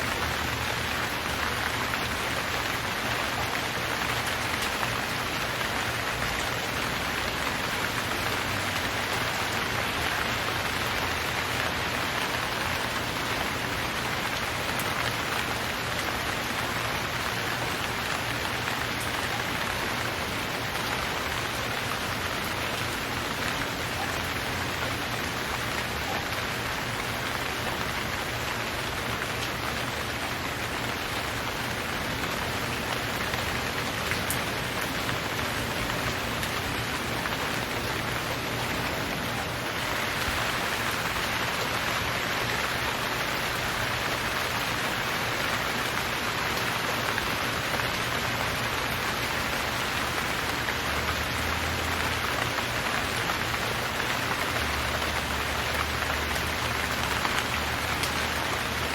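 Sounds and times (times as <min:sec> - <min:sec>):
steady rain pattering: 0:00.0 - 0:58.9.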